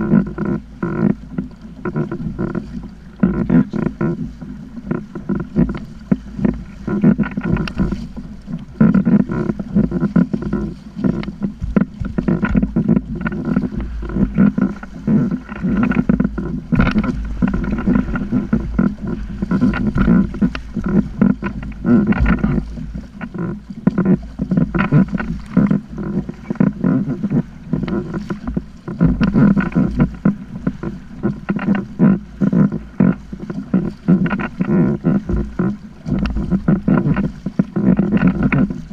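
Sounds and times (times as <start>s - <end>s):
water splashing against kayak hull: 0.0s - 38.9s
wind on microphone: 0.0s - 38.9s.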